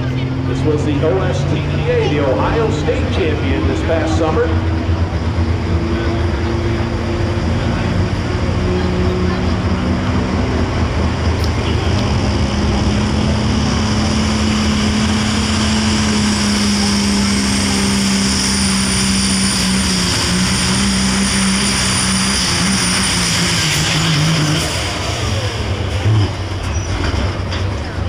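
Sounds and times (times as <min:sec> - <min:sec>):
diesel truck engine drone: 0:00.0 - 0:28.0
turbocharger whine: 0:00.0 - 0:28.0.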